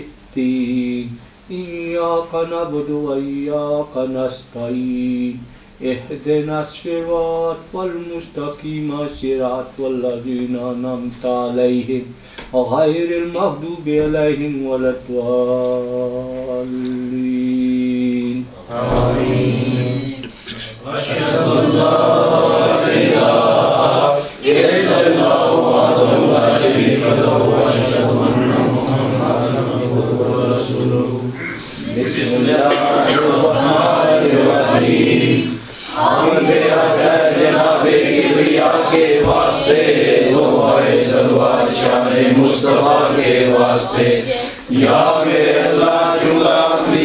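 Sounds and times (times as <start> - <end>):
men chanting in unison: 0.0 - 47.0.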